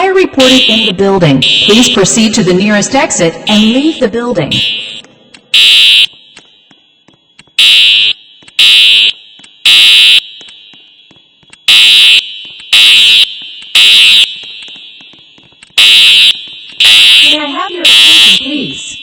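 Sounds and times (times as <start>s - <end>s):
high-pitched fire alarm beeps: 0.3s - 19.0s.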